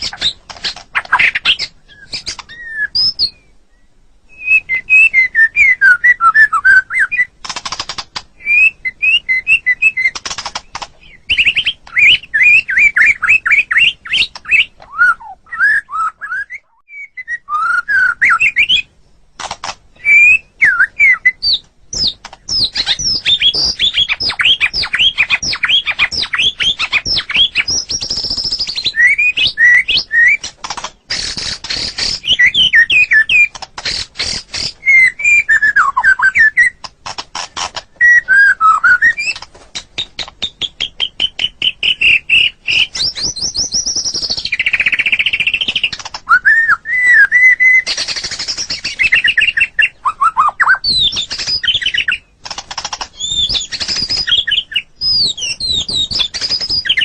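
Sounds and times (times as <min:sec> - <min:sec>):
shama bird singing: 0:00.0 - 0:19.0, 0:19.9 - 0:36.9, 0:37.9 - 0:57.0.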